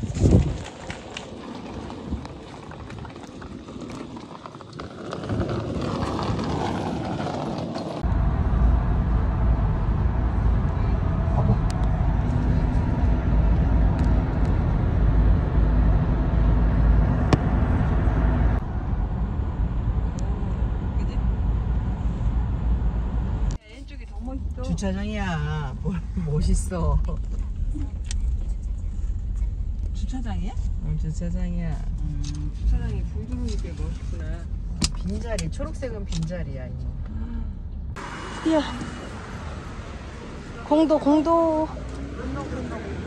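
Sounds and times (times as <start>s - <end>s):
car road noise rumble: 0.0s - 43.0s.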